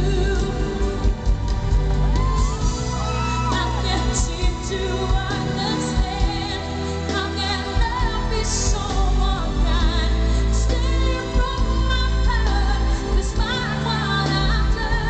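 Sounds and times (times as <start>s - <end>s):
live pop band: 0.0s - 15.0s
woman singing into microphone: 0.0s - 15.0s.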